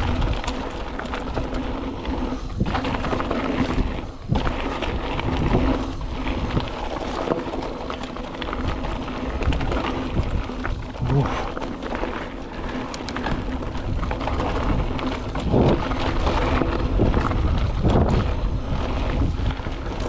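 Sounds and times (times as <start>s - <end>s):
bike clicks and rattles: 0.0s - 20.0s
bike tyres rolling on dirt: 0.0s - 20.0s.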